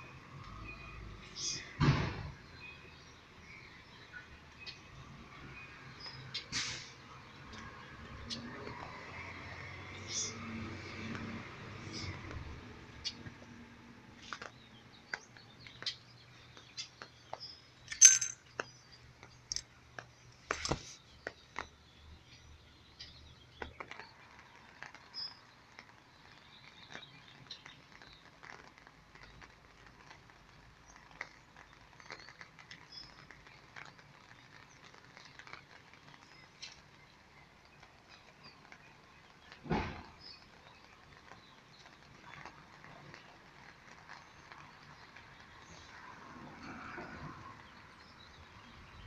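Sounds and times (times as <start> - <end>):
rain hiss: 0.0 - 18.0, 18.6 - 49.0
rain drips tapping: 0.0 - 49.0.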